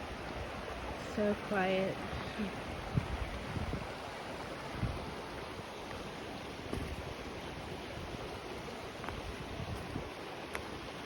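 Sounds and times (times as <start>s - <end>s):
rushing stream water: 0.0s - 11.0s
wind buffeting microphone: 1.9s - 10.9s.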